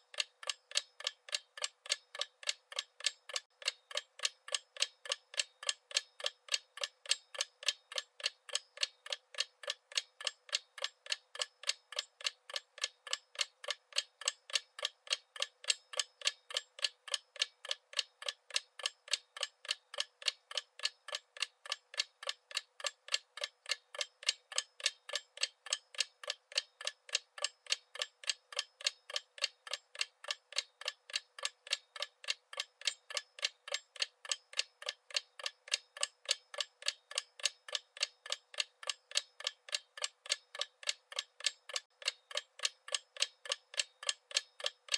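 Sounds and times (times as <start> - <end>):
clock ticking rapidly: 0.0 - 44.9.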